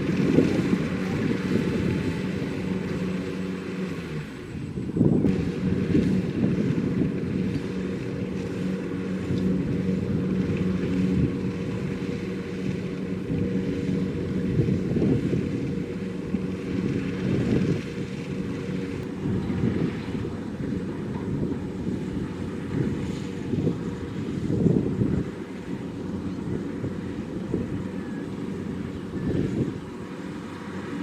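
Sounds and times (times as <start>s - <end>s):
combine harvester running: 0.0s - 31.0s
wind on microphone: 0.0s - 31.0s.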